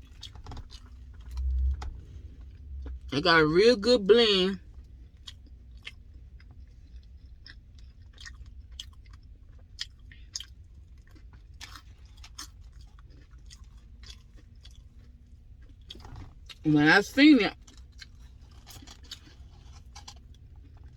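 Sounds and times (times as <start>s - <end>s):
chewing food with crunches: 0.0s - 3.1s, 4.6s - 20.9s
low steady hum: 0.0s - 20.9s.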